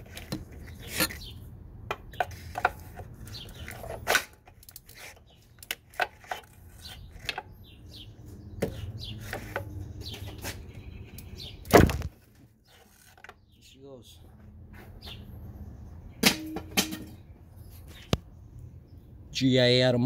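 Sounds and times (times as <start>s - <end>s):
small birds chirping: 0.0s - 4.0s, 4.9s - 16.2s, 17.1s - 20.0s.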